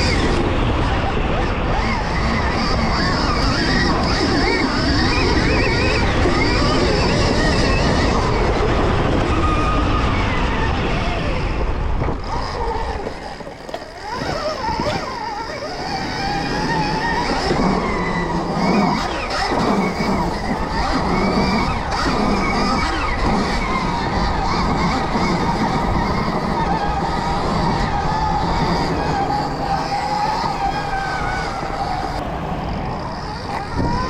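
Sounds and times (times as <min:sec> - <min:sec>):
electric motorbike motor whining: 0:00.0 - 0:34.0.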